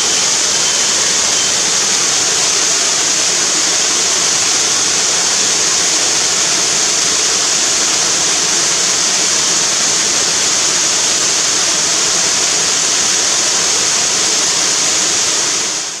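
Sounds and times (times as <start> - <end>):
waterfall pouring and splashing: 0.0 - 16.0.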